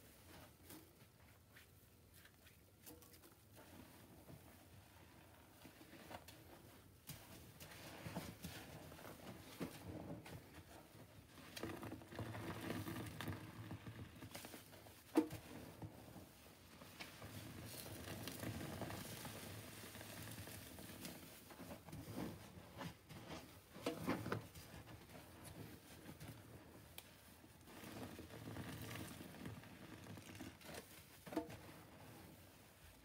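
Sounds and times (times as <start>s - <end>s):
sponges squishing: 0.2s - 33.0s.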